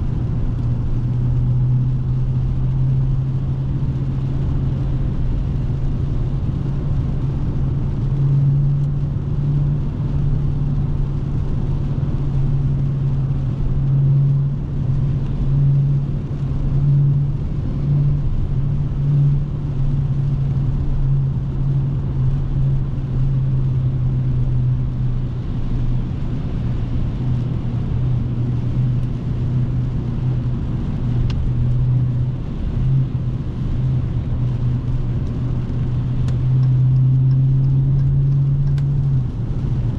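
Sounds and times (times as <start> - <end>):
car engine exhaust drone: 0.0 - 39.9.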